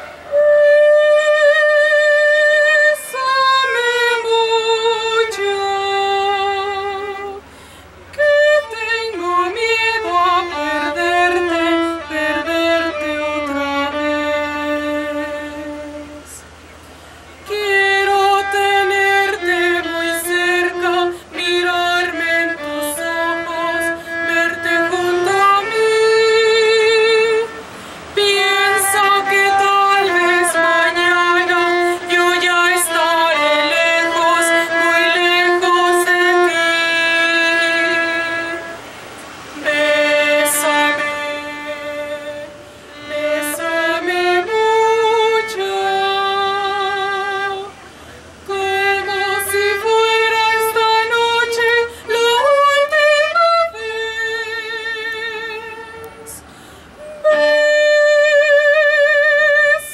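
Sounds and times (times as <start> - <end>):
woman singing classically: 0.0 - 16.6, 17.4 - 59.9
solo violin: 0.0 - 59.9.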